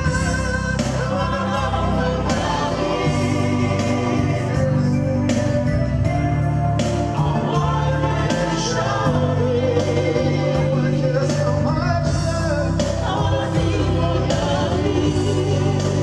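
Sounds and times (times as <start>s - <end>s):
live dance band: 0.0s - 16.0s.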